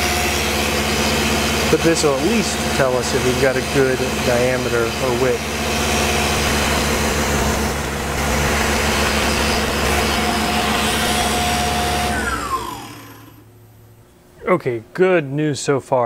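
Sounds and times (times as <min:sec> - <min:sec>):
milling machine cutting: 0:00.0 - 0:13.5
spindle winding down whine: 0:00.0 - 0:13.6.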